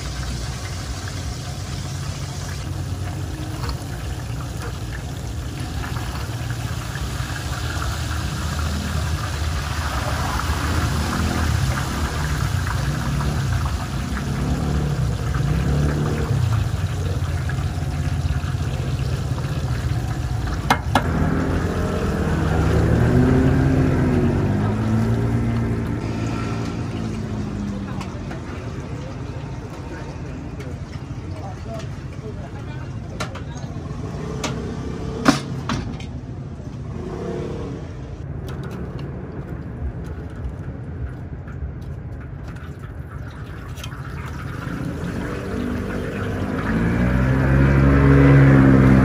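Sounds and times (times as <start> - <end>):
food deep-frying in bubbling oil: 0.0 - 35.3, 36.8 - 49.0.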